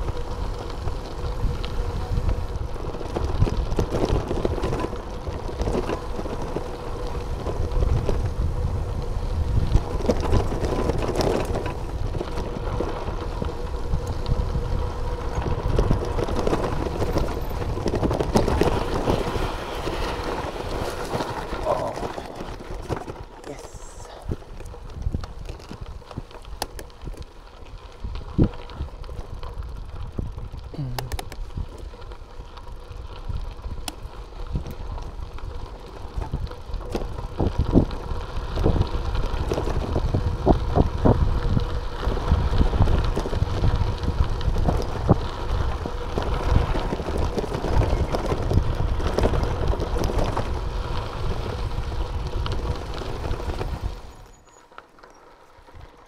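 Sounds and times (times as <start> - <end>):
bike rattling: 0.0 - 56.0
tyres crunching on gravel: 0.0 - 56.0.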